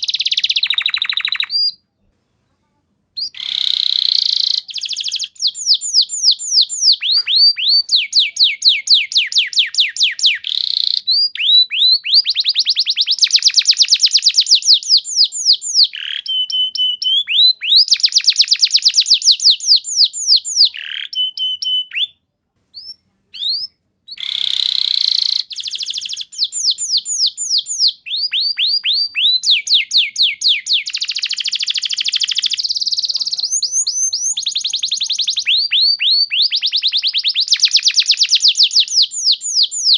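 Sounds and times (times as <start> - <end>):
canary singing trills: 0.0 - 1.8, 3.2 - 39.9
short bird whistles: 3.2 - 22.2, 22.8 - 39.9.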